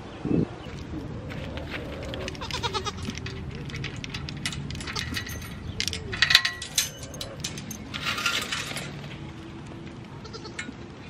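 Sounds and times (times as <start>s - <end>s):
light metallic clinking: 1.9s - 11.0s.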